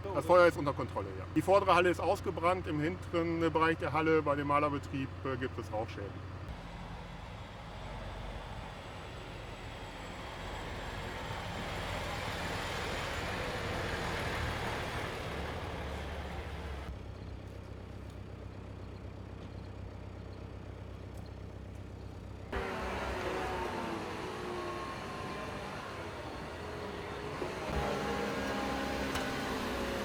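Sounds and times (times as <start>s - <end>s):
heavy vehicle engine rumbling: 0.0s - 30.0s.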